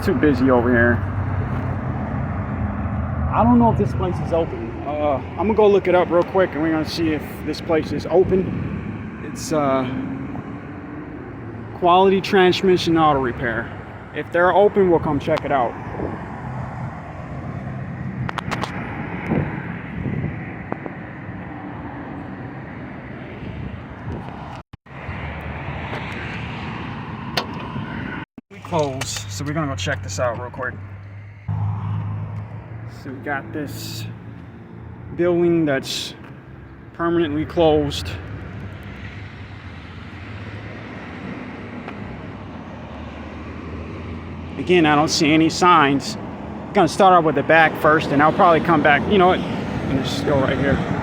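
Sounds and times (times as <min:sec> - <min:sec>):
road and wind noise: 0:00.0 - 0:51.0.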